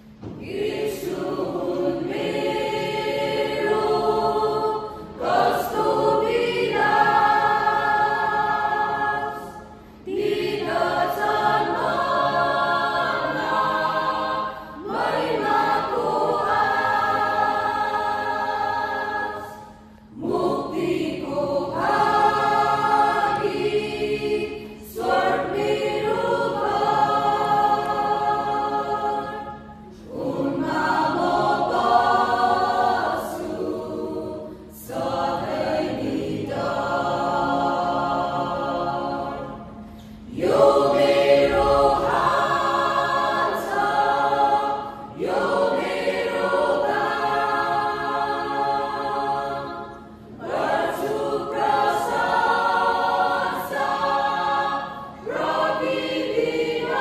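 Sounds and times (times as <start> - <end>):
mixed choir singing gospel: 0.0 - 57.0.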